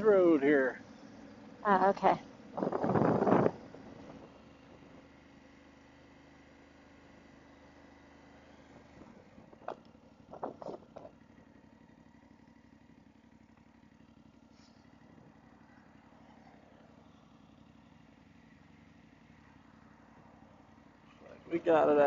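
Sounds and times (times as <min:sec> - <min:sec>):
motorcycle engine humming: 0:00.0 - 0:22.0.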